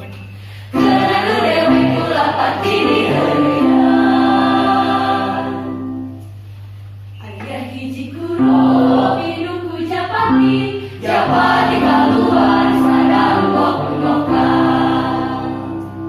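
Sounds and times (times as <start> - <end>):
choir singing in parts: 0.7 - 6.3, 7.5 - 16.0.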